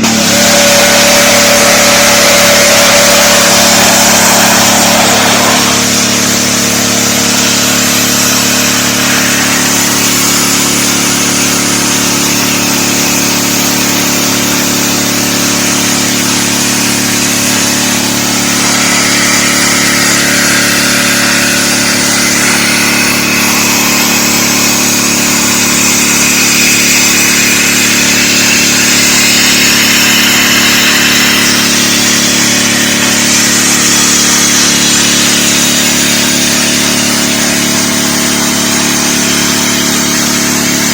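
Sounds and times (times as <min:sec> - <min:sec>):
high-pressure water spray hiss: 0:00.0 - 0:38.2
pressure washer engine: 0:00.0 - 0:40.9.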